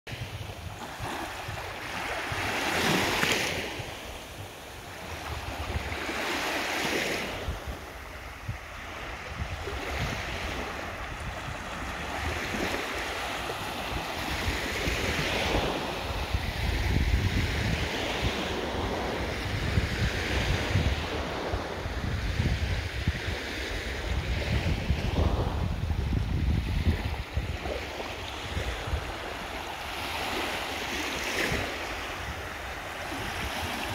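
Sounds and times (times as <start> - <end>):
small waves washing on shore: 0.1 - 33.9
wind buffeting microphone: 0.1 - 33.9.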